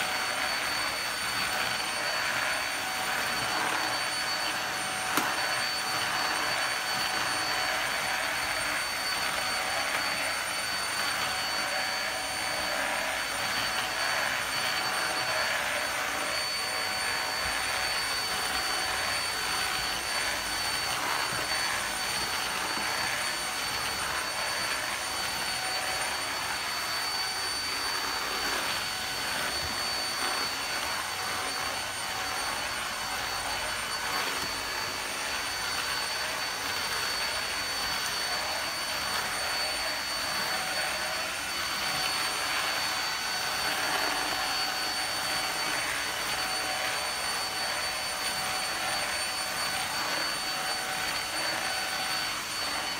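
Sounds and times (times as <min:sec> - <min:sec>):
handheld vacuum cleaner running: 0:00.0 - 0:52.9.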